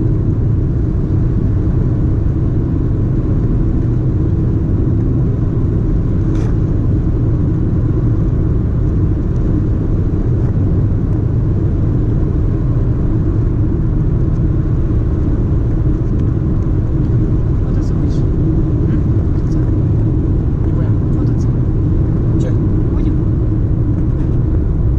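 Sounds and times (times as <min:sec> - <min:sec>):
car road rumble: 0:00.0 - 0:24.9.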